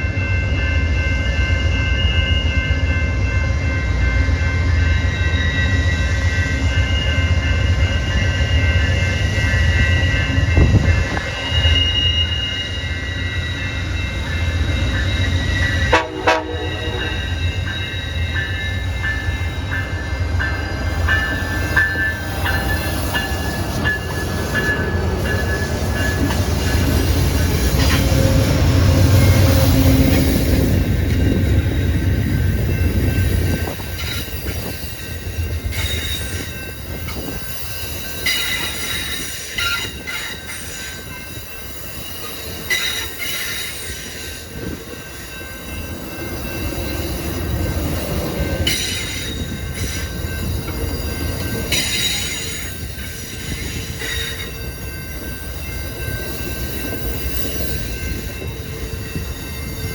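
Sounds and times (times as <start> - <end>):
passenger train rumble: 0.0 - 59.9
train wheels squealing: 0.0 - 59.9.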